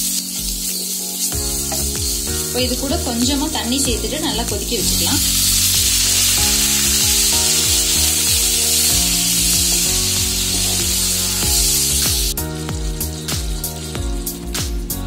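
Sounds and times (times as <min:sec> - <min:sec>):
background music melody: 0:00.0 - 0:15.0
food sizzling in a hot pan: 0:00.0 - 0:15.0.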